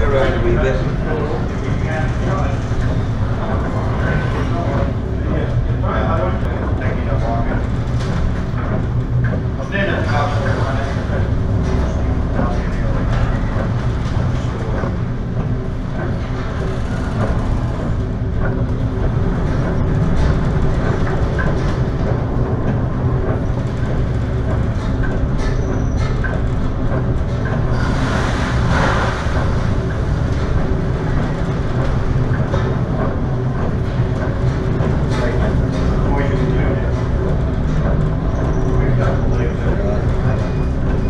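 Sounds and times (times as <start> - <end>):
ship's engine droning: 0.0 - 41.0.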